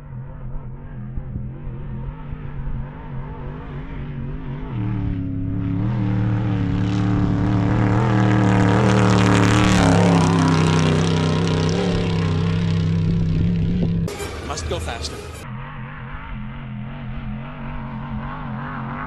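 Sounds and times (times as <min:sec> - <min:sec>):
off-road vehicle engine revving high: 0:00.0 - 0:19.0.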